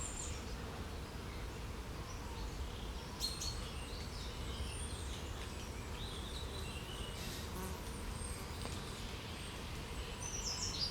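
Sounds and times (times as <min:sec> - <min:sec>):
distant songbirds chirping: 0:00.0 - 0:10.9.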